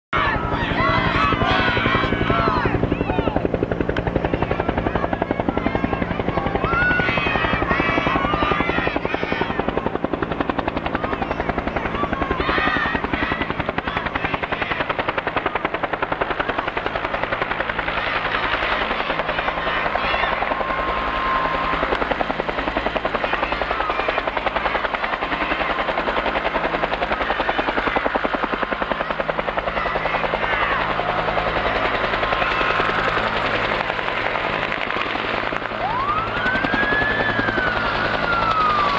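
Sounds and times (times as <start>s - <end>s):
helicopter engine hum: 0.2s - 38.9s
helicopter rotor chopping: 0.2s - 38.9s.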